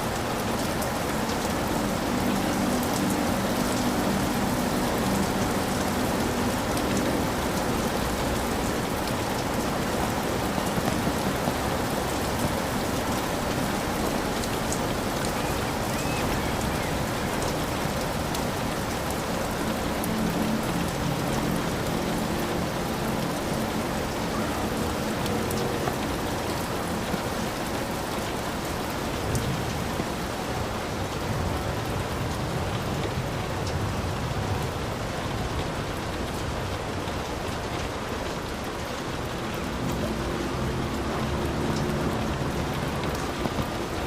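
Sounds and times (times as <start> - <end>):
heavy rain on a hut: 0.0 - 44.0.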